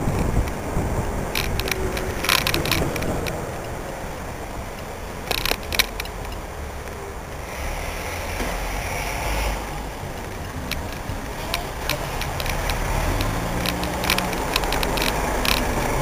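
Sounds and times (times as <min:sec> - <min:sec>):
sharp clicks and rattles: 0:00.0 - 0:16.0
traffic engines rumbling: 0:00.0 - 0:16.0.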